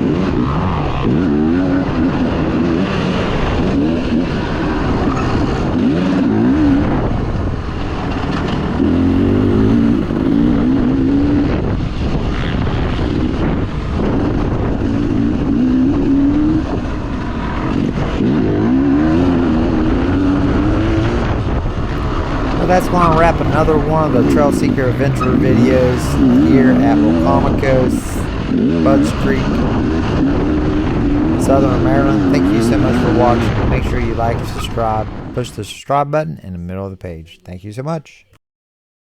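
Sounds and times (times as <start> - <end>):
dirt bike engine revving: 0.0 - 35.6.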